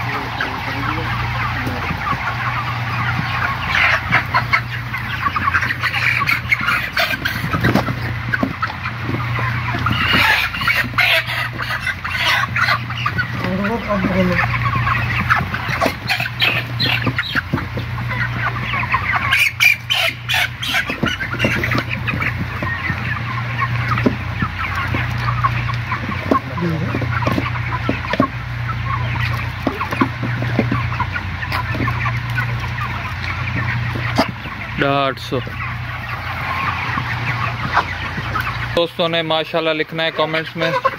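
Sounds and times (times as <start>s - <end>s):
chickens chirping and clucking: 0.0s - 40.9s.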